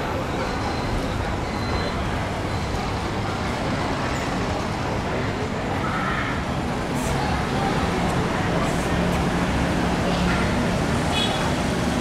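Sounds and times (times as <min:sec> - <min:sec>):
motorbike traffic rumble: 0:00.0 - 0:12.0.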